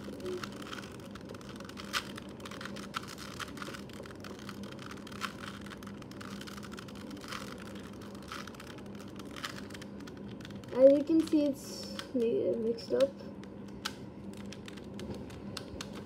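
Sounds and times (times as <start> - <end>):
puzzle cube plastic clicks: 0.0 - 16.0.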